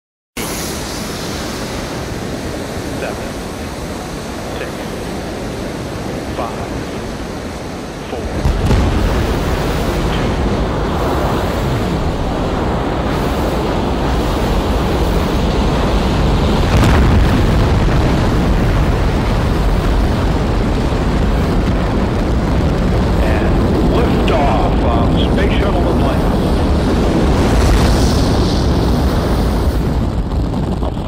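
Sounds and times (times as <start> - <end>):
rocket engines roaring: 0.4 - 31.0.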